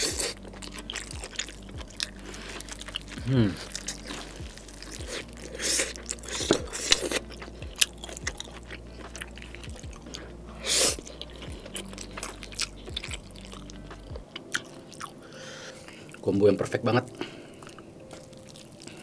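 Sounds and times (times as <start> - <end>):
chewing and biting food: 0.0 - 16.2, 17.2 - 19.0.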